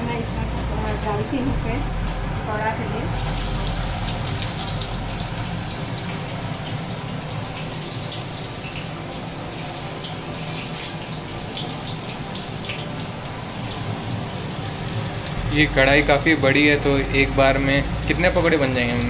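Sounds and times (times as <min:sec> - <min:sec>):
food deep-frying in oil: 0:03.1 - 0:19.0.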